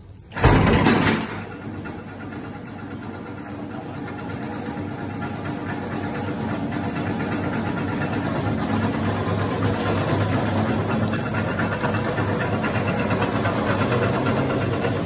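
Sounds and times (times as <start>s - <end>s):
bread slicer mechanical hum: 0.0s - 15.0s.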